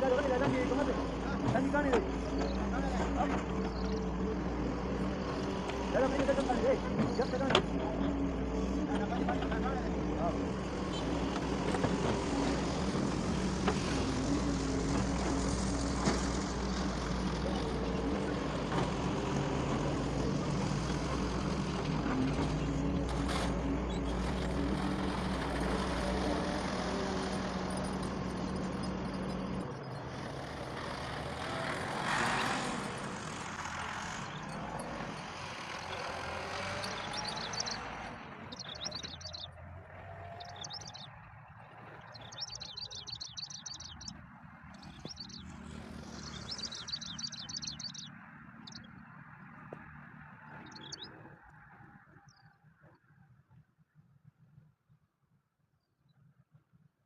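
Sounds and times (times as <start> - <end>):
diesel engine humming: 0.0 - 51.9.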